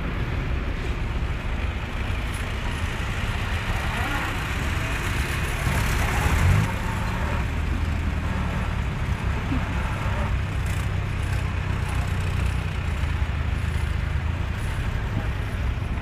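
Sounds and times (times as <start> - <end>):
jeep engines running at low speed: 0.0 - 16.0.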